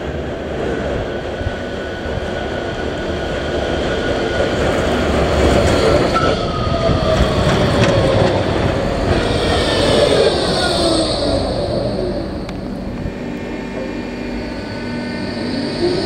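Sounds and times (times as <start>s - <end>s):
tram passing with whining tones: 0.0s - 16.0s.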